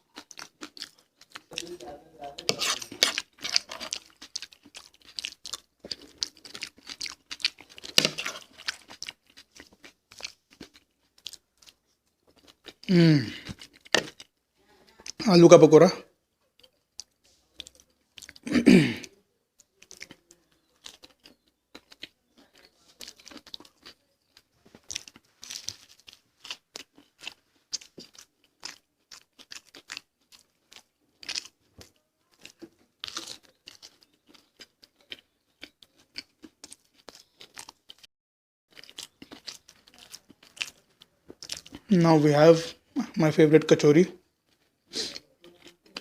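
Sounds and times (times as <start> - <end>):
chewing crunchy food: 0.0 - 15.2, 16.5 - 38.1, 38.7 - 43.0, 44.2 - 46.0.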